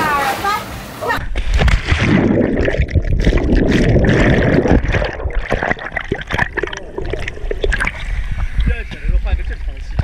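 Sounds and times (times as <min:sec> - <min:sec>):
water churning underwater: 0:01.2 - 0:10.0
bubbles crackling: 0:01.4 - 0:10.0.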